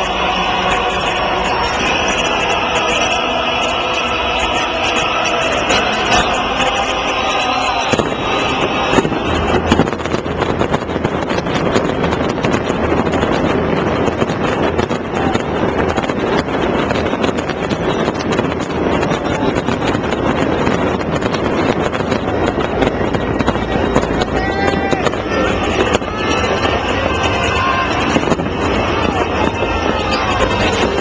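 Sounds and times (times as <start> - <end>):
fireworks barrage: 0.0 - 31.0.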